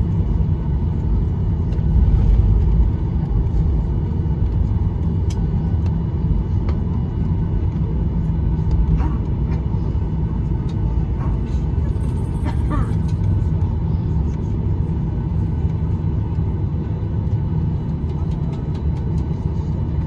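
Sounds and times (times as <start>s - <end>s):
low rumble in aircraft cabin: 0.0s - 20.0s.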